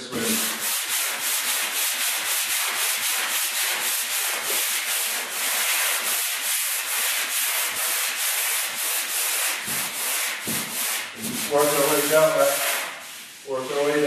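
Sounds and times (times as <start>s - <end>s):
sandpaper rasping on drywall: 0.0s - 14.0s.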